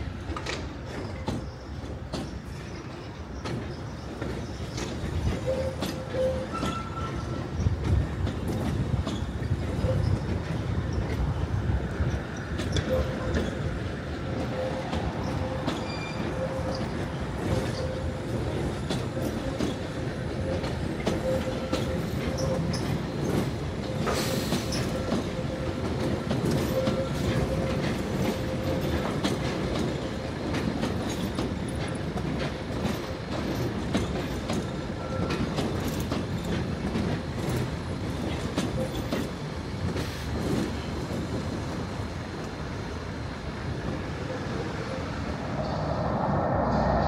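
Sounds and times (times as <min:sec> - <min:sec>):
train whine: 0:00.0 - 0:47.0
underground train rumble: 0:00.0 - 0:47.0
wheels clicking over rail joints: 0:00.2 - 0:42.9.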